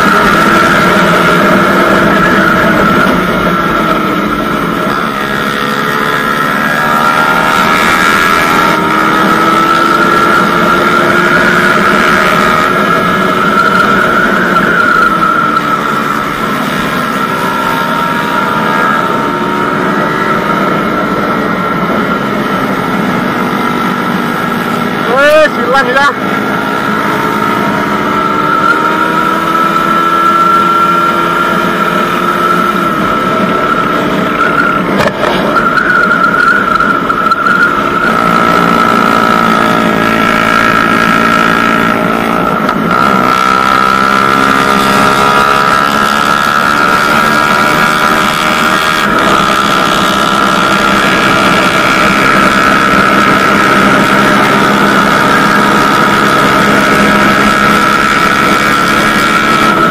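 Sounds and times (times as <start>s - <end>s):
motorcycle engine running: 0.0s - 59.9s
steady high whine: 0.0s - 59.9s.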